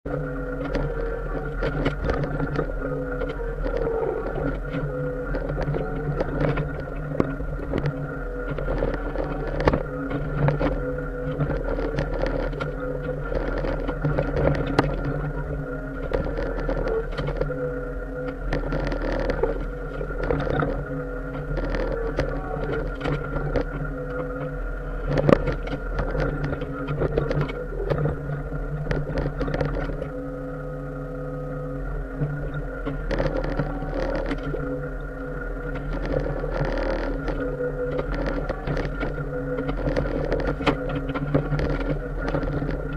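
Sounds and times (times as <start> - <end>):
hydraulic whine: 0.1 - 42.9.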